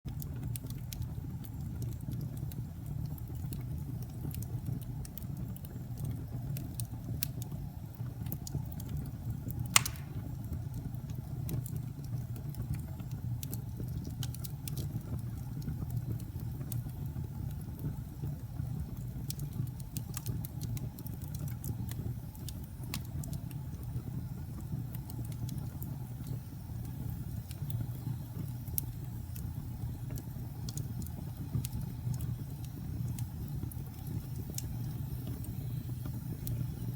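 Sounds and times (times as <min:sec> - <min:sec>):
fire crackling in fireplace: 0:00.1 - 0:36.9.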